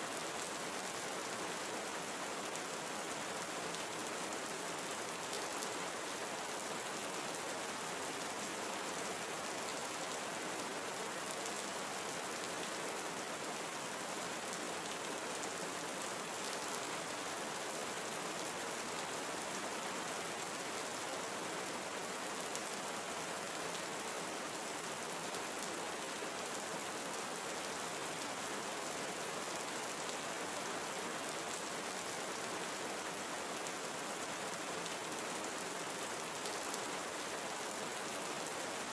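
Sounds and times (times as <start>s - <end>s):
rain on foliage: 0.1s - 38.9s.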